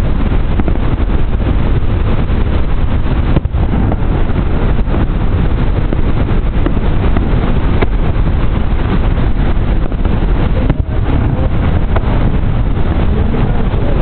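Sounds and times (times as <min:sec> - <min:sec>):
distant fireworks popping: 0:00.0 - 0:14.0
loud steady rumbling: 0:00.0 - 0:14.0.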